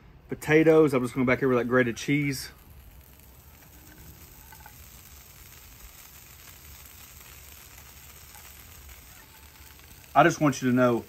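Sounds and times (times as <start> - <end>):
potatoes sizzling in a skillet: 1.5 - 11.0.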